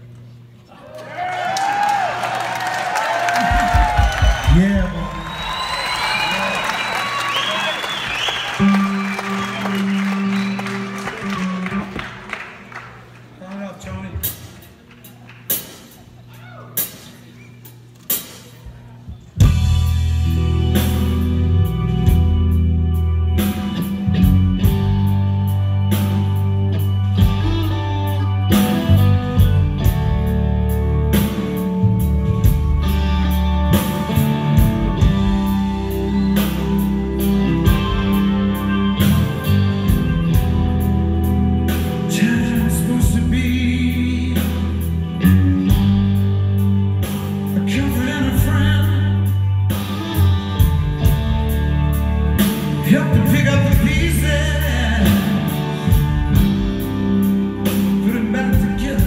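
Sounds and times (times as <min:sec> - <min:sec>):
live rock band playing: 0:03.3 - 0:13.2, 0:14.1 - 0:59.0.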